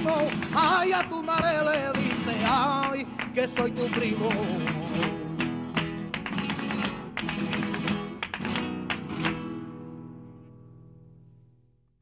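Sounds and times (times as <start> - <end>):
strummed flamenco guitar: 0.0 - 11.7.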